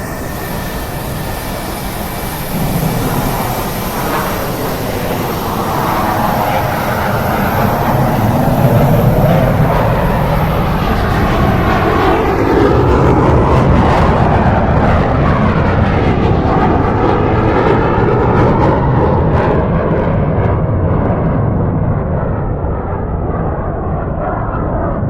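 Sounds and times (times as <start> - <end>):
airplane engine passing low: 0.0 - 25.0.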